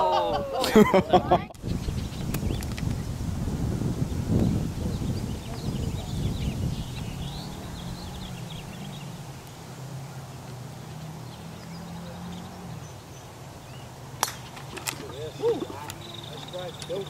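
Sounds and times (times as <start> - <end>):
birds chirping: 0.0 - 17.0
distant engine hum: 0.0 - 17.0.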